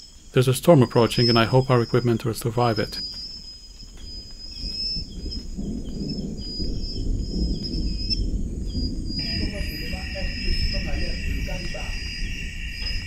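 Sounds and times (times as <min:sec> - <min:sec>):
high insect trill: 0:00.0 - 0:13.0
insect chirps: 0:00.0 - 0:13.0
low rumbling noise: 0:00.8 - 0:13.0.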